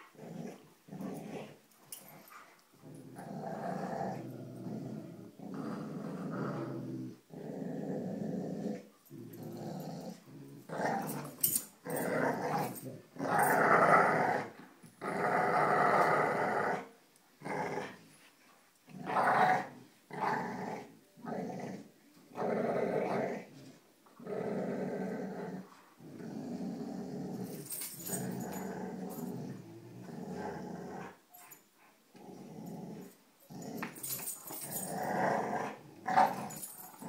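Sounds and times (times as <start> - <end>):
dogs growling in play: 0.0 - 37.0.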